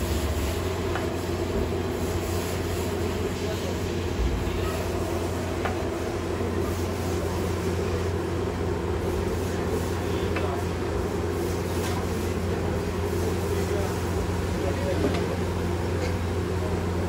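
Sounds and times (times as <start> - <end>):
onions sizzling on a griddle: 0.0 - 16.4.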